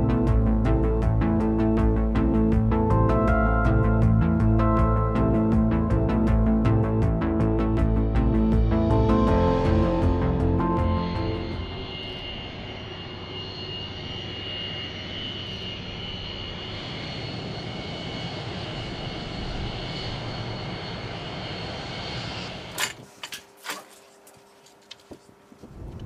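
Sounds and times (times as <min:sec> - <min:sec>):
jet engines running: 0:00.0 - 0:23.2.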